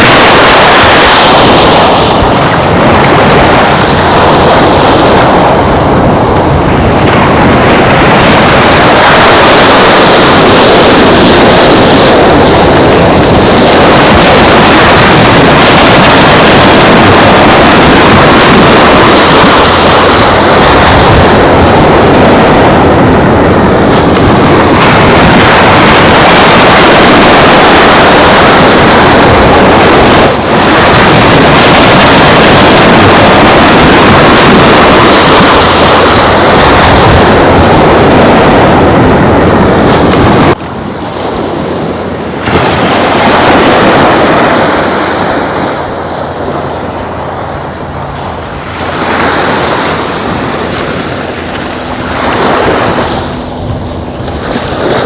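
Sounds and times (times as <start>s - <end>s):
surf rushing on shore: 0.0s - 55.0s
wind buffeting microphone: 0.0s - 55.0s.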